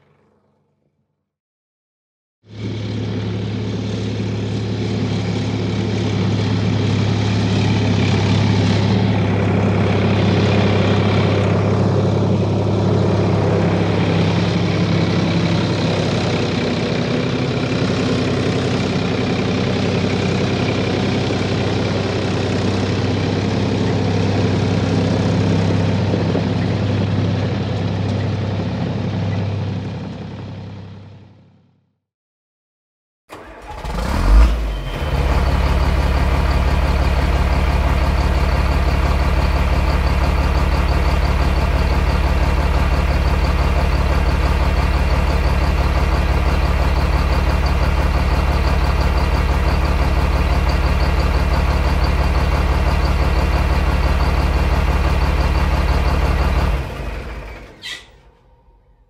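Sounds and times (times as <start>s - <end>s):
heavy engine humming: 2.5s - 31.5s, 33.3s - 59.0s.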